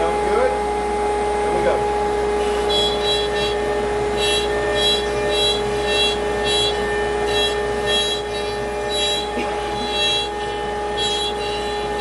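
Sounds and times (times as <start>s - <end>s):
router spindle whine: 0.0s - 12.0s
cutter bit whine in wood: 1.6s - 12.0s.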